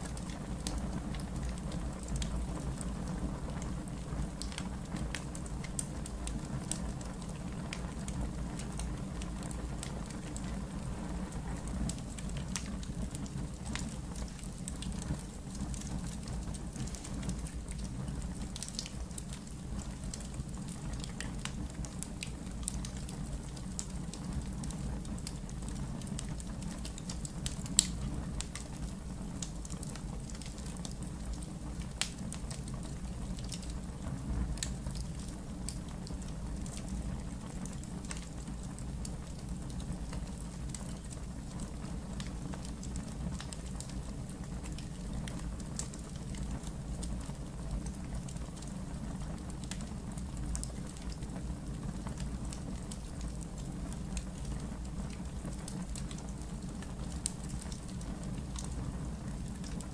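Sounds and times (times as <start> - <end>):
fire rumbling in fireplace: 0.0 - 59.9
wood crackling and popping: 0.0 - 59.9.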